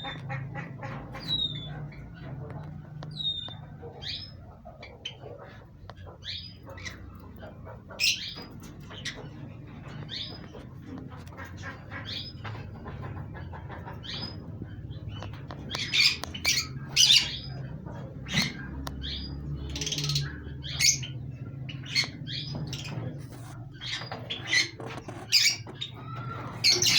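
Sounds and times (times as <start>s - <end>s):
bird squawks: 0.0s - 26.9s
lovebirds chirping: 0.0s - 26.9s.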